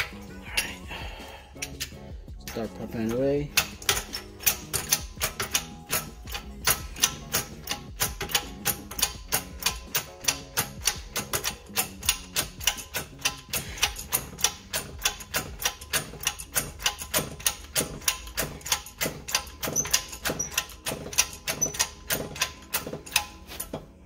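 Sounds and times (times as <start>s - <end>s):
hydraulic press pump clicking: 1.6s - 24.0s.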